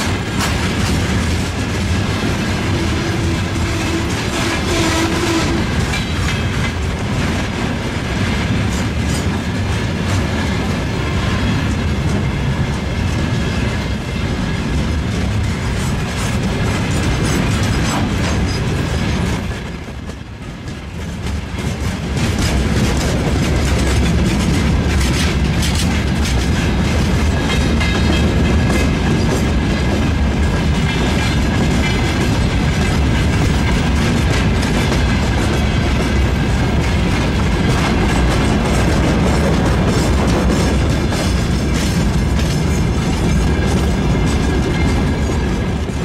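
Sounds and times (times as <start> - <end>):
freight train wagons rumbling past: 0.0 - 46.0
wheels clattering over rail joints: 0.0 - 46.0.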